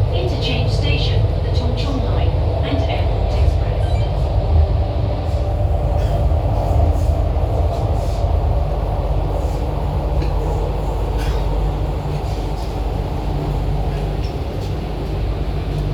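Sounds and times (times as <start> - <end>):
steel wheels rumbling on rail: 0.0 - 15.9.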